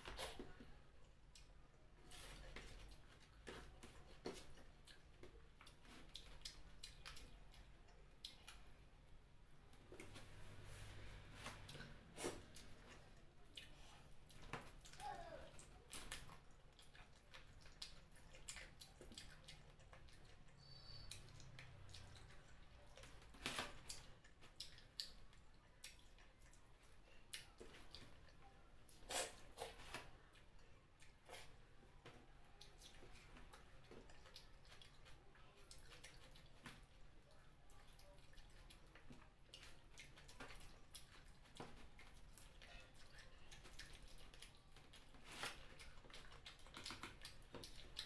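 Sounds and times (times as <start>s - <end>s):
chewing sounds: 0.0s - 48.0s.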